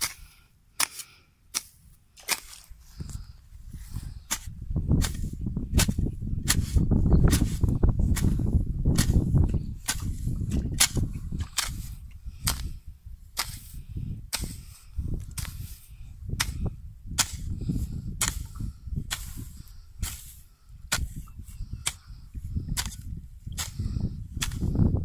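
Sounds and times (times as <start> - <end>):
hoe chopping into soil: 0.0 - 3.2, 4.2 - 12.8, 13.4 - 24.8.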